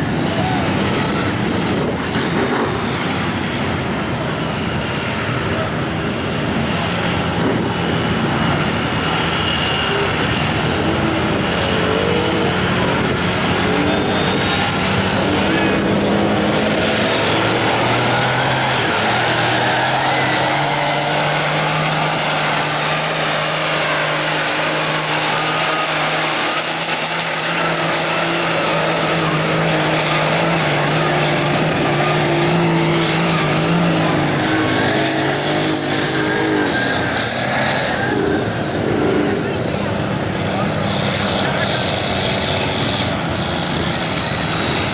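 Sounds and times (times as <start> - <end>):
high whine: 0.0 - 44.9
truck engine revving high: 0.0 - 44.9.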